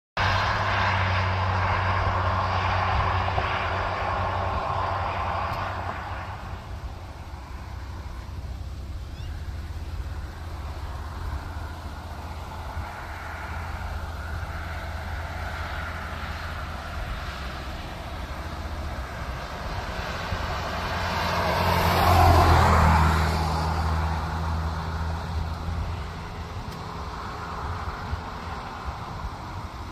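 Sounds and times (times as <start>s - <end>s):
steady low rumble: 0.2s - 29.9s
vehicle passing on highway: 0.2s - 29.9s.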